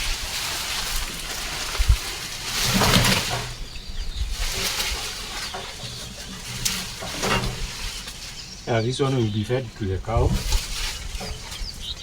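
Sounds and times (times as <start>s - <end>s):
leafy plant stems rustling: 0.0s - 12.0s.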